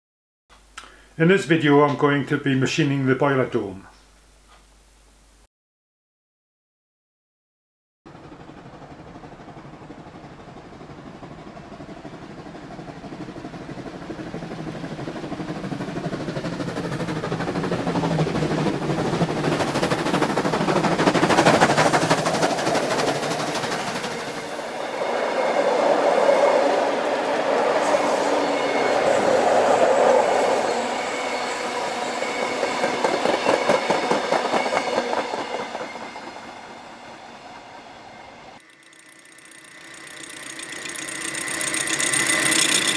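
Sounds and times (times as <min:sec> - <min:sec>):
train running: 0:08.1 - 0:42.9.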